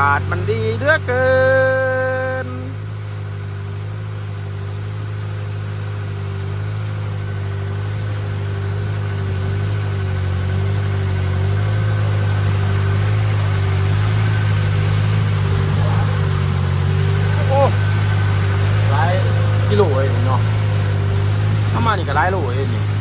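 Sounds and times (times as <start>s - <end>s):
boat engine running: 0.0s - 23.0s
steady hiss: 0.0s - 23.0s.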